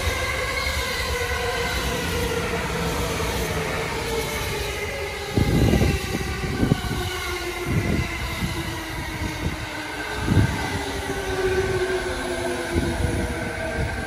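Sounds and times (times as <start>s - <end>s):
electric train humming past: 0.0s - 14.0s.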